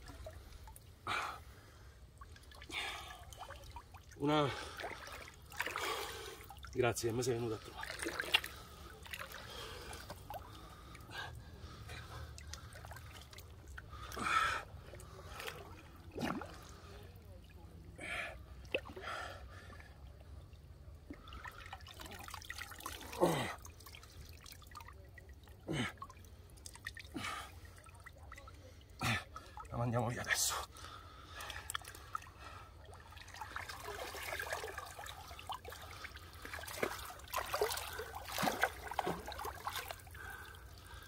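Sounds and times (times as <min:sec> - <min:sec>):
water dripping and trickling: 0:00.0 - 0:01.2, 0:02.1 - 0:41.0
light water splashes and plops: 0:00.0 - 0:29.9, 0:30.7 - 0:41.0.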